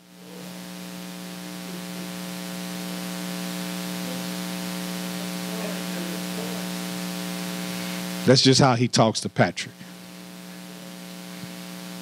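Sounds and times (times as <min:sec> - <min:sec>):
electrical mains hum: 0:00.0 - 0:12.0
static hiss: 0:00.0 - 0:12.0.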